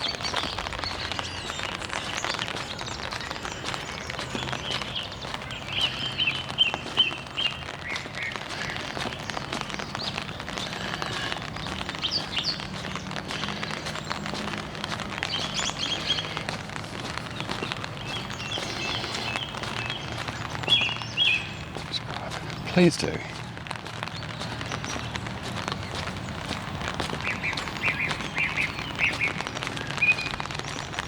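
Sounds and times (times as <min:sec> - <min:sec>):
raindrops on an umbrella: 0:00.0 - 0:31.0
small birds chirping: 0:00.0 - 0:31.0.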